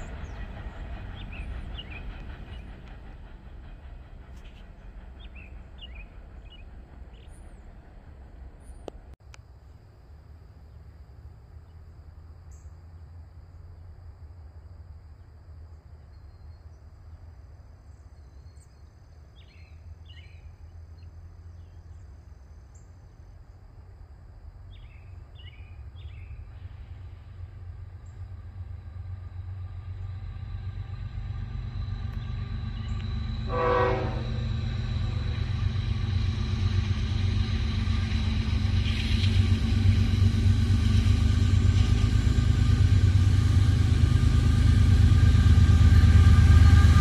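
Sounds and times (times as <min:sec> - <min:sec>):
diesel train rumbling: 0:00.0 - 0:09.2, 0:09.9 - 0:47.0.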